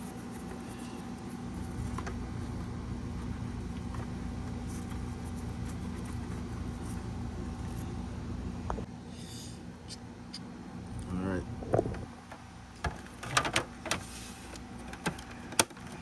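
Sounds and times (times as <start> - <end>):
low mechanical rumble with hum: 0.0 - 16.0.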